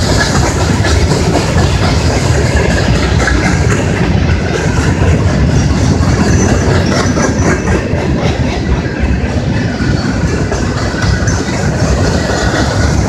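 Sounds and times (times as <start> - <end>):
steel wheels clacking on rail: 0.0 - 13.0.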